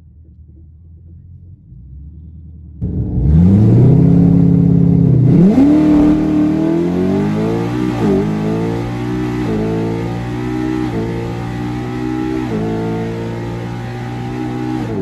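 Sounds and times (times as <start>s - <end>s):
race car engine accelerating: 2.8s - 15.0s.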